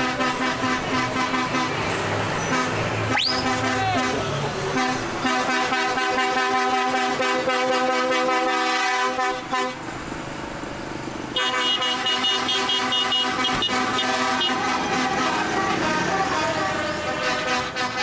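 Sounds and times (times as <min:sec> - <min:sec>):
vehicle horns blasting: 0:00.0 - 0:09.8, 0:11.3 - 0:18.0
vehicles running: 0:00.0 - 0:18.0.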